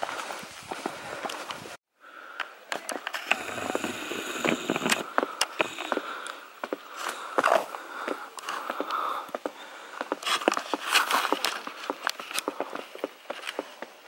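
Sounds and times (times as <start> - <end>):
footsteps on rocky dirt trail: 0.0 - 1.8, 2.7 - 14.0.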